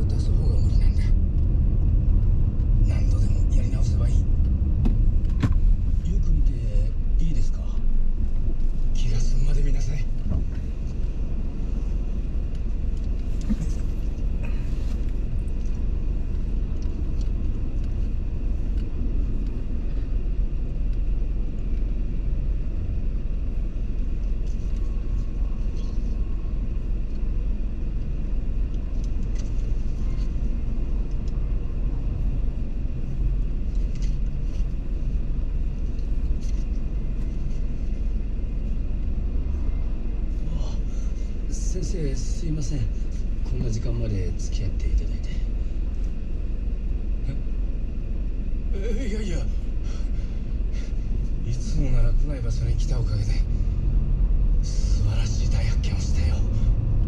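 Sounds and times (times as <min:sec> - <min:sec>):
car engine idling: 0:00.0 - 0:57.0
surrounding traffic: 0:00.0 - 0:57.0.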